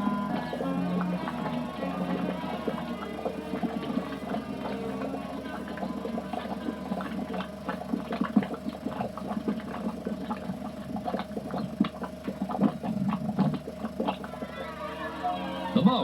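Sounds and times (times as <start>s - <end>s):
mud pools bubbling and plopping: 0.0s - 15.2s
steady hum: 0.0s - 16.0s.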